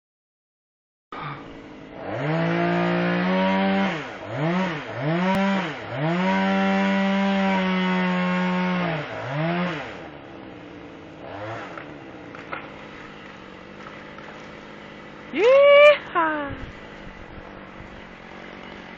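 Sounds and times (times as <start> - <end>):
chainsaw engine revving: 1.6 - 10.3, 11.1 - 18.9
chainsaw idling: 1.6 - 18.9.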